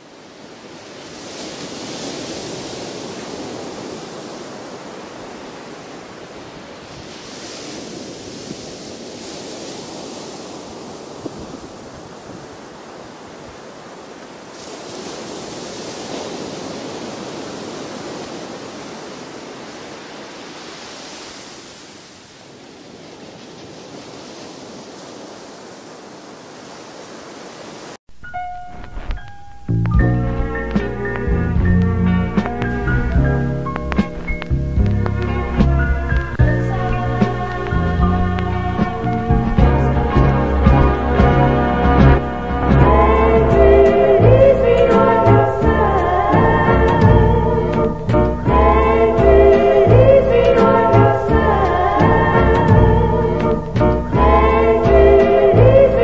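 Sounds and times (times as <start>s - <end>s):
waves washing up beach: 0.0s - 28.0s, 28.6s - 56.0s.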